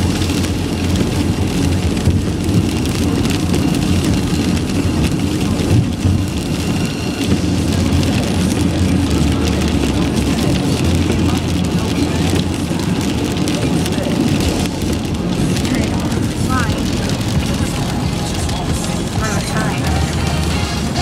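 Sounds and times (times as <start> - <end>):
rain pattering on car: 0.0 - 21.0
road rumble: 0.0 - 21.0.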